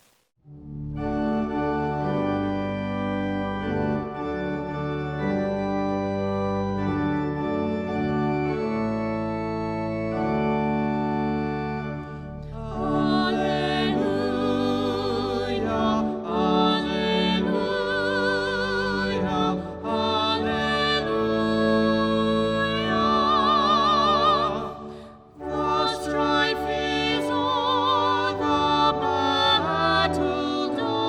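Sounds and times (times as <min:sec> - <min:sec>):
organ playing sustained chords: 0:00.5 - 0:31.0.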